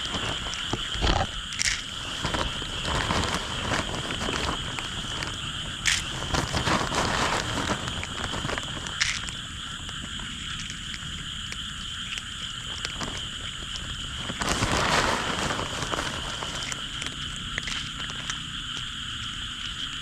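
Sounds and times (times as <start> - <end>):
low rumbling and rustling: 0.0 - 11.5, 14.0 - 18.9
frogs trilling: 0.0 - 20.0.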